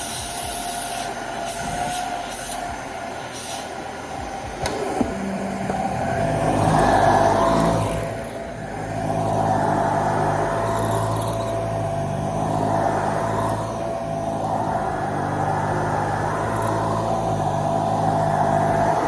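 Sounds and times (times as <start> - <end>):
vacuum cleaner whine: 0.0 - 19.0.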